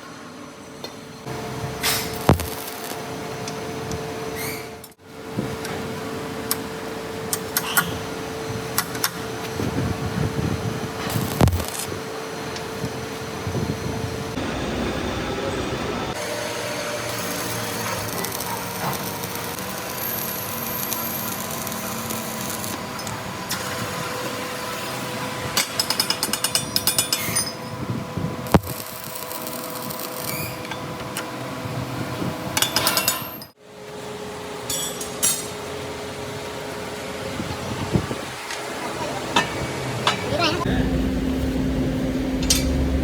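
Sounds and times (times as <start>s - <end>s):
machinery humming: 0.0s - 25.6s, 33.7s - 43.0s.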